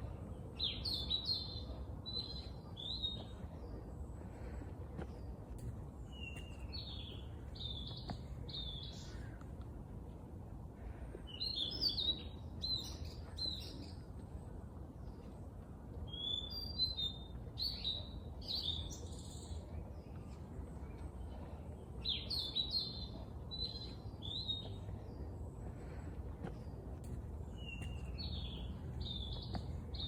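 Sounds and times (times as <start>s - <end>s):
low background rumble: 0.0s - 30.0s
songbird chirping: 0.0s - 30.0s.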